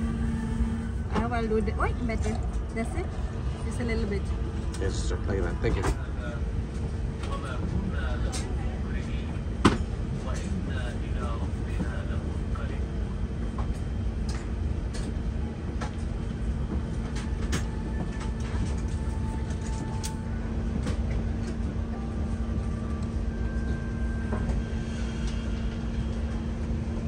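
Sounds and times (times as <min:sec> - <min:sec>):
aircraft cabin hum: 0:00.0 - 0:27.0.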